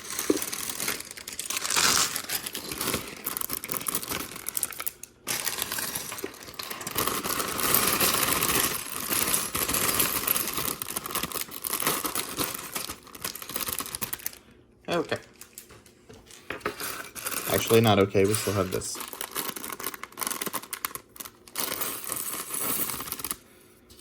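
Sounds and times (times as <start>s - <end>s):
plastic bags crinkling and tearing: 0.0s - 24.0s.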